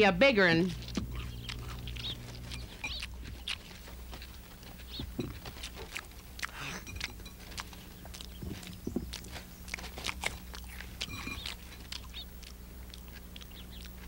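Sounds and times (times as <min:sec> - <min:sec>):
people chewing: 0:00.0 - 0:14.0
steady low hum: 0:00.0 - 0:14.0.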